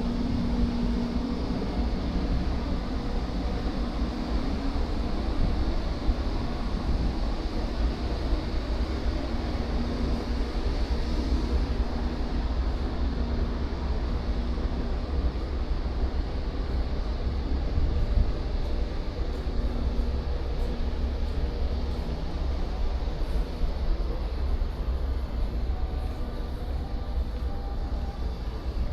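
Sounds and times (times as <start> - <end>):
faint steady hum: 0.0 - 28.9
ship rumble and hiss: 0.0 - 28.9.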